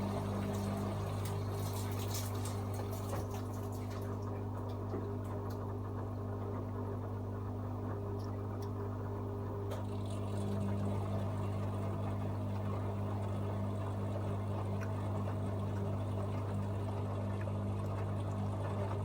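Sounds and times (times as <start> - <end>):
washing machine electrical hum: 0.0 - 19.0.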